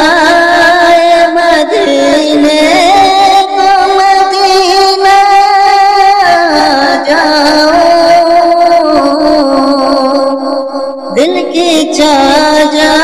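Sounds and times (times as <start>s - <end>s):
man singing long held note: 0.0s - 13.0s.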